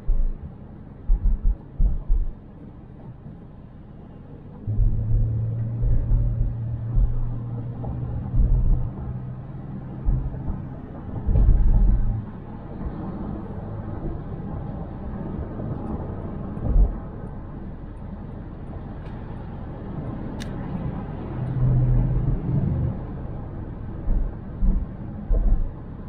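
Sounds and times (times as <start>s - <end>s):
steady low drone: 0.0s - 3.3s, 4.5s - 19.0s, 20.0s - 26.0s
car engine and road rumble: 0.0s - 26.0s.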